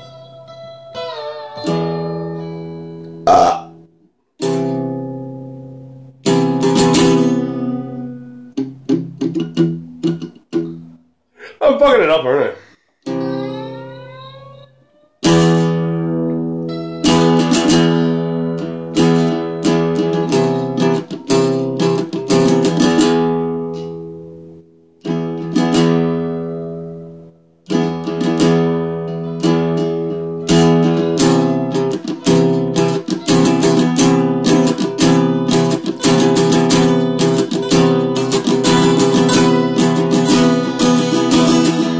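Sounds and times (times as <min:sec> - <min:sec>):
guitars strumming chords: 0:00.0 - 0:11.0, 0:13.0 - 0:41.9.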